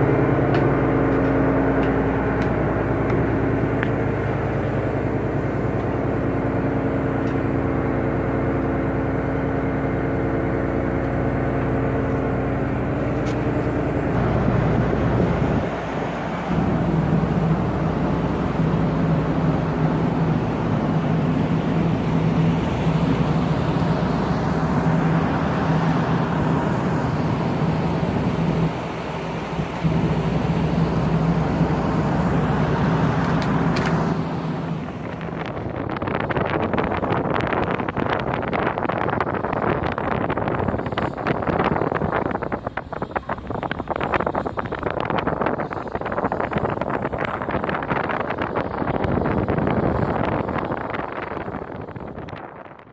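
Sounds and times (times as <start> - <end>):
machinery drone: 0.0 - 52.4.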